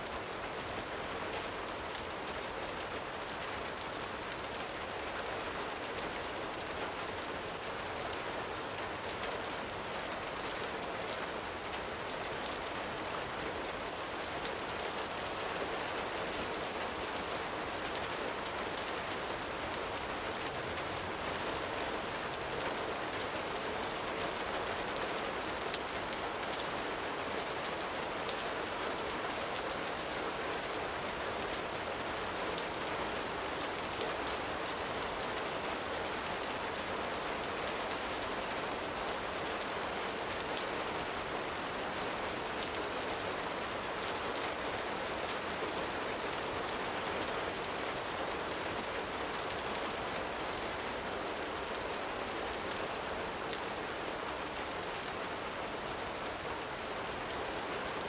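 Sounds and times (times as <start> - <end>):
gentle rain hiss: 0.0 - 58.0.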